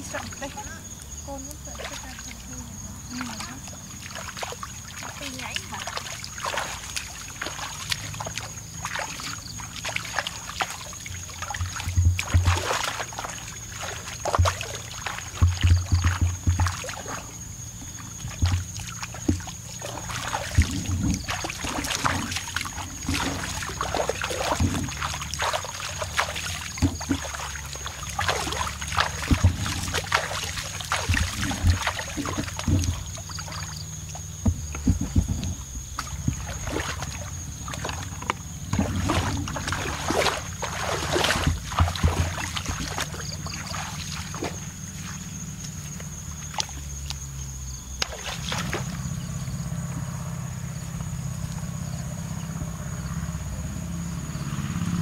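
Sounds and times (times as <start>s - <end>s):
muddy water sloshing: 0.0s - 55.0s.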